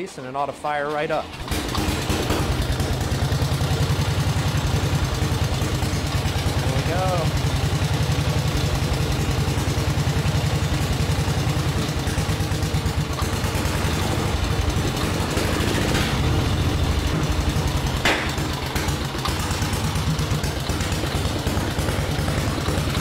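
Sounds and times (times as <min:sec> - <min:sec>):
motorcycle engine running: 0:01.2 - 0:23.0.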